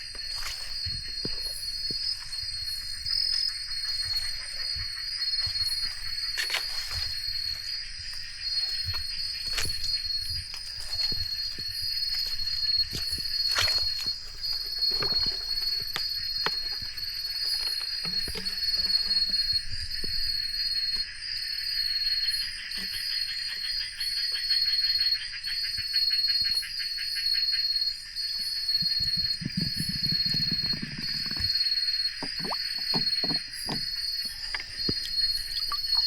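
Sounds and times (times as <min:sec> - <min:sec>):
high continuous insect trill: 0:00.0 - 0:36.0
rapidly pulsing insect trill: 0:00.0 - 0:36.0.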